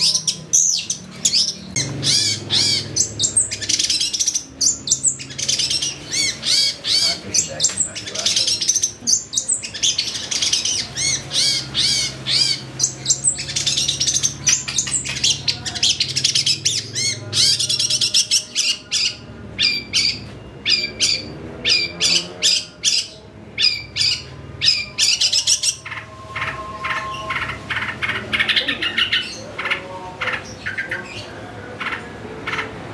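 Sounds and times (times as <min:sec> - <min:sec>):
bird singing harsh chatters and trills: 0:00.0 - 0:32.9.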